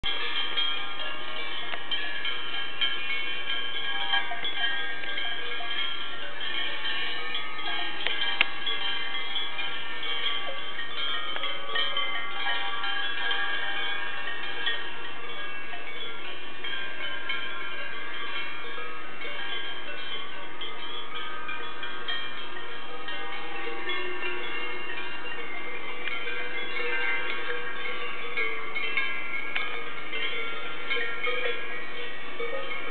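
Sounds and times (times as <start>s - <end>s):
cowbells clanging: 0.0s - 32.9s.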